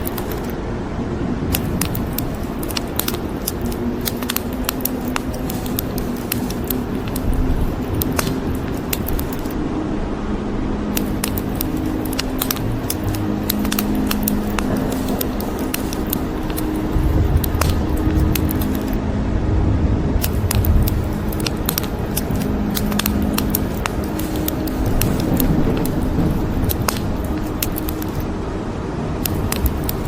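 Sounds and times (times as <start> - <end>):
wood fire crackling: 0.0 - 0.6, 1.5 - 9.6, 11.0 - 19.0, 20.2 - 28.4, 29.2 - 30.0
thunder rumbling: 1.3 - 30.0
rain hissing: 1.5 - 9.6, 10.8 - 19.0, 20.2 - 30.0.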